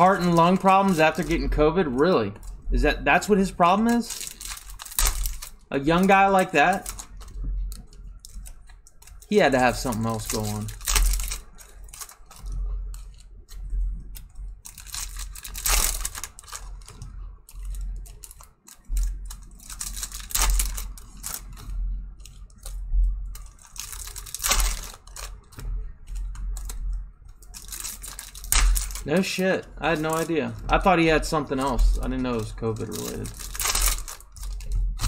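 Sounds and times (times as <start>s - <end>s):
foil wrapper crinkling and tearing: 0.0s - 26.8s, 27.4s - 35.0s
cards clicking and shuffling: 0.0s - 35.0s.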